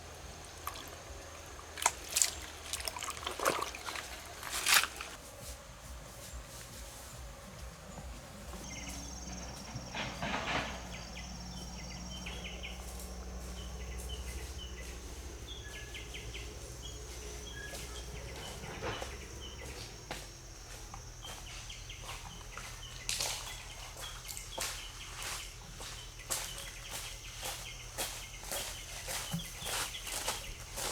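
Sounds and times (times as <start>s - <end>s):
low hum: 0.0s - 28.0s
rustling footsteps: 0.0s - 30.9s.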